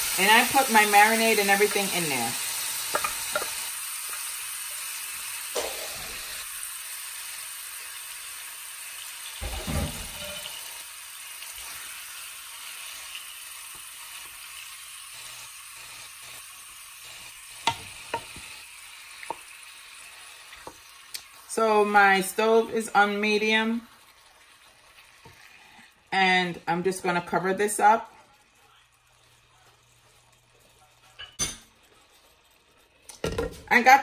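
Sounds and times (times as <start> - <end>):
chicken sizzling in oil: 0.0 - 33.4.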